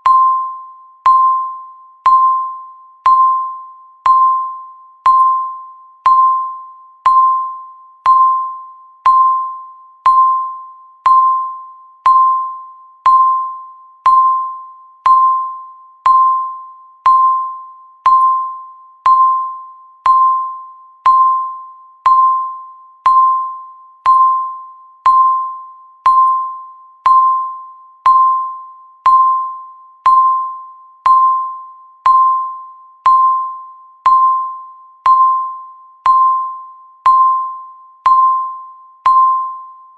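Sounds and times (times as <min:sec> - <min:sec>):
timer beeping bell-like tone: 0:00.0 - 0:39.9.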